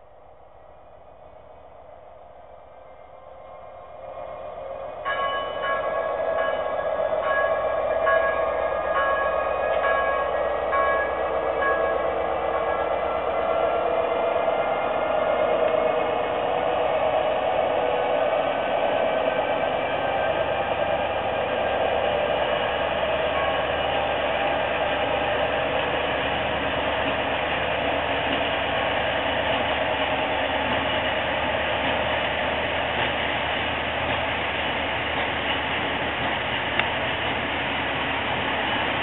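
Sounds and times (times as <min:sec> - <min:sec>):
locomotive engine hum: 0:00.0 - 0:39.0.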